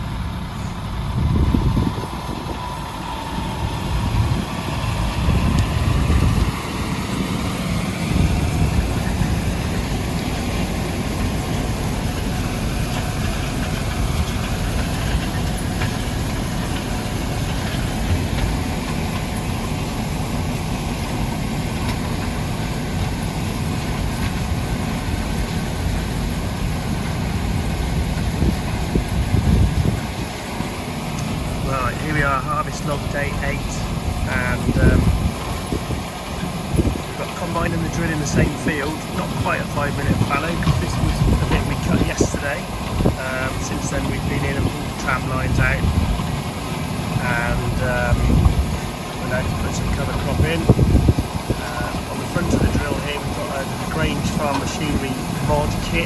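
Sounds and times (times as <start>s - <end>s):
diesel engine running: 0.0s - 56.0s
low engine rumbles: 0.0s - 56.0s.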